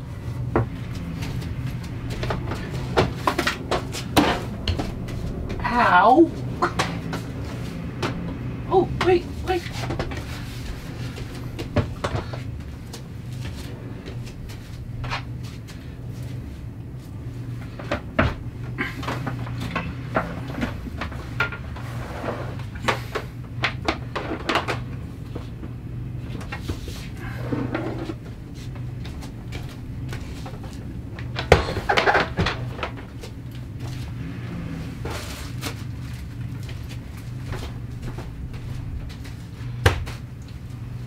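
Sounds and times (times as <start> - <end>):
low hum: 0.0 - 41.0
items clattering in cupboard: 0.1 - 41.0.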